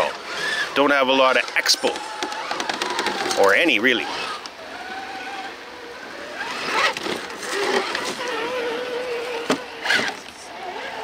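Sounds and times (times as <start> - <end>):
rc car electric motor whining: 0.0 - 11.0.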